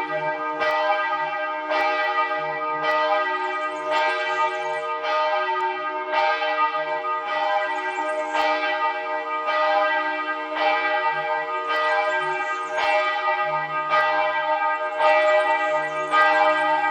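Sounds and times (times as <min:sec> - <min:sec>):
church bells ringing: 0:00.0 - 0:16.9.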